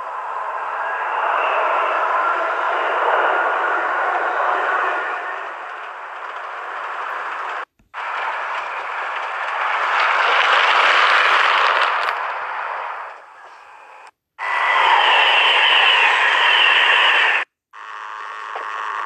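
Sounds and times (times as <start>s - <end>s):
model train whirring: 0.0s - 17.5s
faint steady whine: 0.0s - 19.0s.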